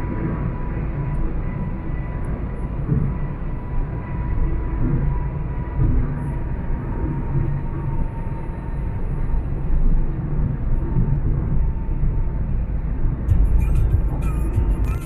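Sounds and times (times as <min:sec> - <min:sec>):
car road noise at highway speed: 0:00.0 - 0:15.0.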